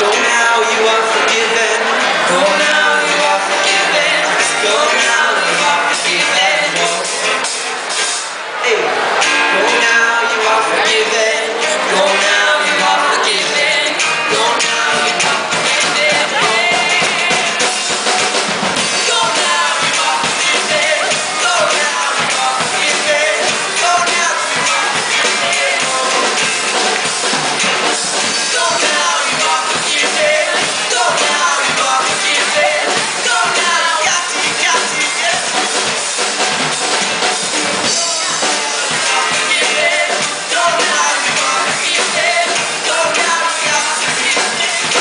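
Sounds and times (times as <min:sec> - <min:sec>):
person singing: 0:00.0 - 0:07.6, 0:08.6 - 0:18.2, 0:18.8 - 0:36.0, 0:37.8 - 0:45.0
band with drum kit: 0:00.0 - 0:45.0.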